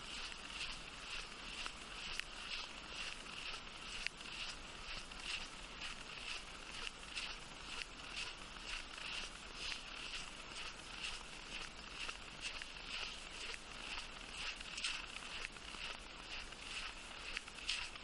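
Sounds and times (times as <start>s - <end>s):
footsteps crunching in snow: 0.0s - 18.0s.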